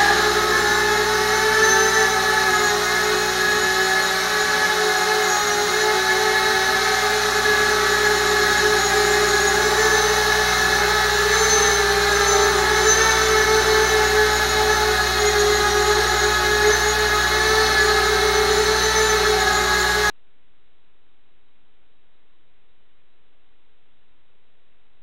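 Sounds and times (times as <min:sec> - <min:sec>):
quadcopter motors whining: 0:00.0 - 0:20.1.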